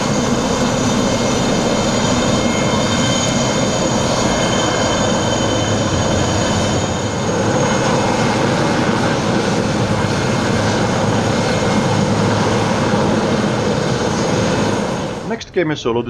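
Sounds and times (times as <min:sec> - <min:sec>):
helicopter engine and rotor noise: 0:00.0 - 0:16.0
high turbine whine: 0:00.0 - 0:16.0.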